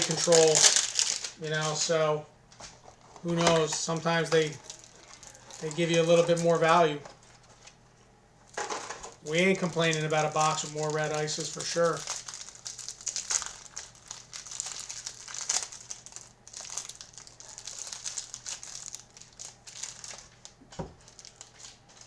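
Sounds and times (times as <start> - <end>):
plastic wrapping crinkling: 0.0 - 7.8, 8.4 - 22.0.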